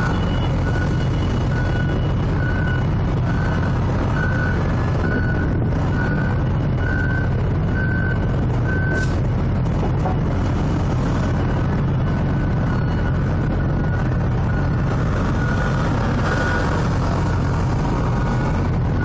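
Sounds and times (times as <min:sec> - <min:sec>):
forklift reversing alarm beeping: 0:00.0 - 0:09.8, 0:10.8 - 0:19.0
low engine rumble: 0:00.0 - 0:19.0.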